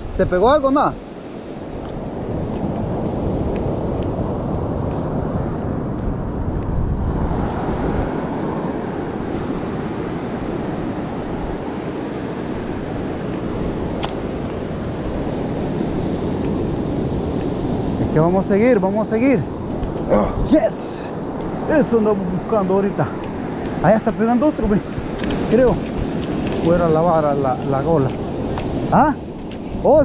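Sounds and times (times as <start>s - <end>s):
ocean surf breaking: 0.0s - 30.0s
wind buffeting microphone: 0.0s - 30.0s.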